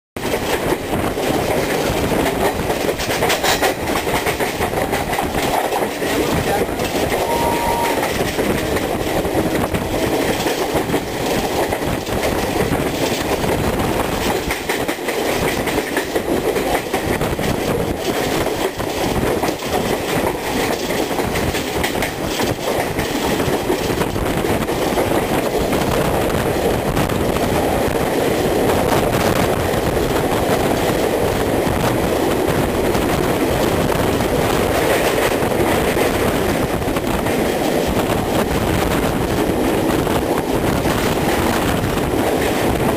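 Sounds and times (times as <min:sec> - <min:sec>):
train rumble in tunnel: 0:00.2 - 0:42.9
train wheels clicking over joints: 0:00.2 - 0:42.9.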